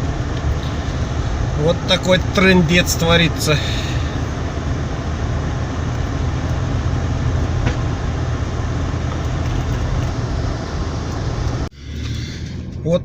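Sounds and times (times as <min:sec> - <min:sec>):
car driving with road noise: 0:00.0 - 0:13.0.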